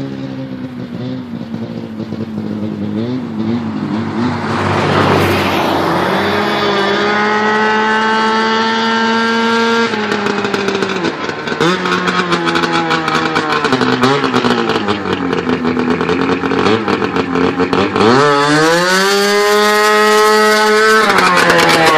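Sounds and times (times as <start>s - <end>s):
two-stroke engine revving: 0.0s - 21.9s.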